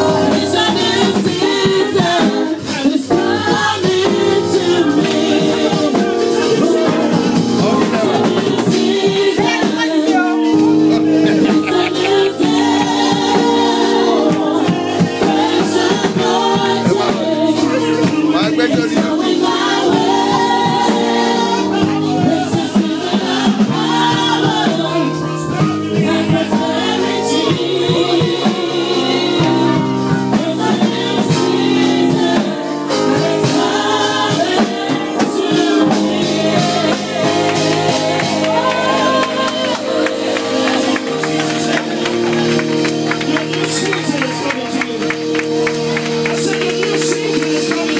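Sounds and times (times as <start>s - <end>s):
choir singing: 0.0s - 45.0s
drums and percussion beat: 0.0s - 47.9s
keyboard chords: 0.0s - 47.9s.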